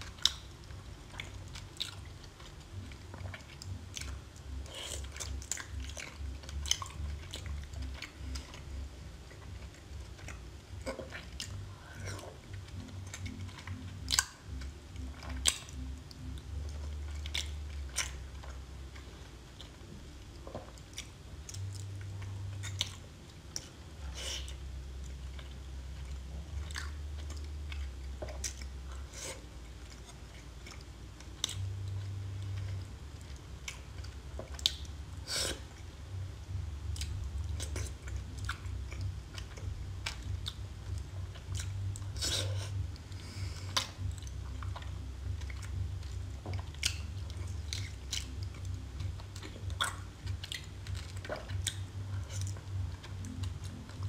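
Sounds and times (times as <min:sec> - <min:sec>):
chewing shellfish: 0:00.0 - 0:54.0.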